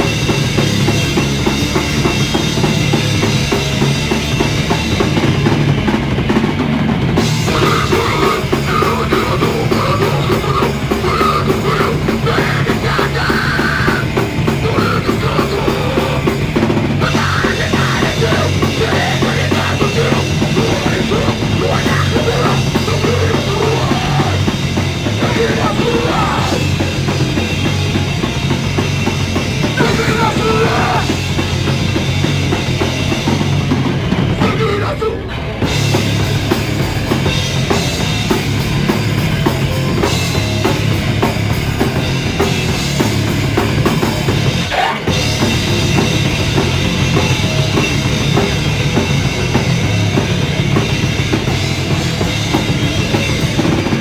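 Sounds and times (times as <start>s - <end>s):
distorted guitar: 0.0s - 54.0s
live rock band playing: 0.0s - 54.0s
pounding drum kit: 0.0s - 54.0s.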